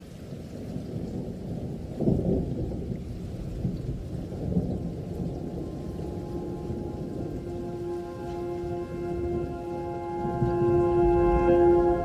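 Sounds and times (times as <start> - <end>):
steady rain: 0.0 - 12.0
thunder rumbling: 0.2 - 12.0.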